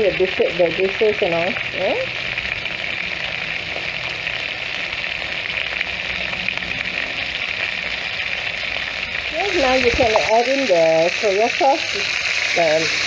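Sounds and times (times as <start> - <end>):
chicken sizzling in a wok: 0.0 - 13.0.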